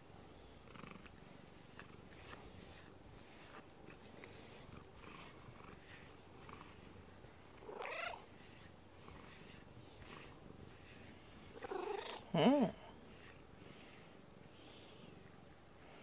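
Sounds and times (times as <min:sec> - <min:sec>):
cat purring: 0:00.3 - 0:16.0.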